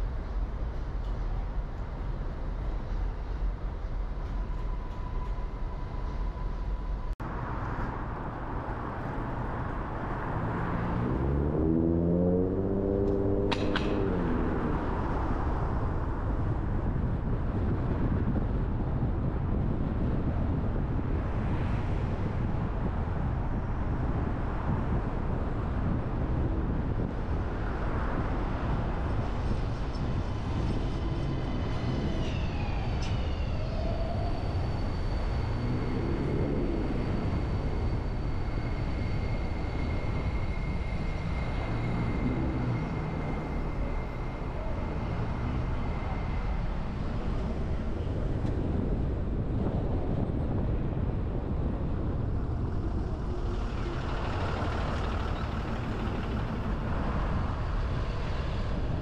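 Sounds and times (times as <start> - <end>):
traffic and road noise: 0.0 - 59.0.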